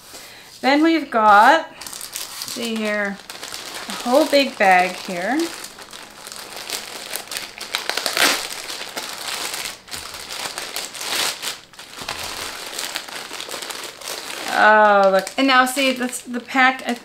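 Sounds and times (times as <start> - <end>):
plastic bag crinkling: 1.2 - 17.0.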